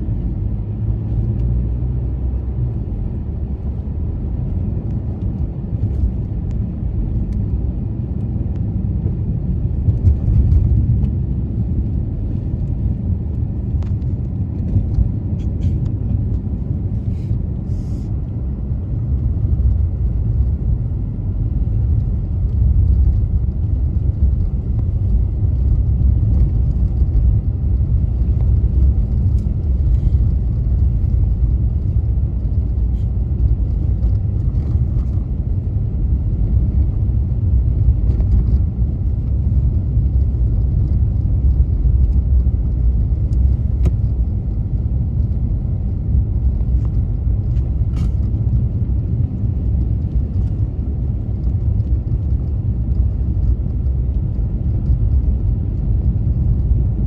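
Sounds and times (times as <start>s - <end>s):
car driving on snow: 0.0s - 57.0s.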